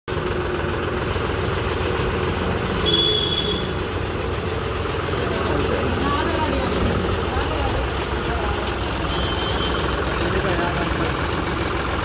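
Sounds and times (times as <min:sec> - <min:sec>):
tractor diesel engine idling: 0:00.1 - 0:12.0.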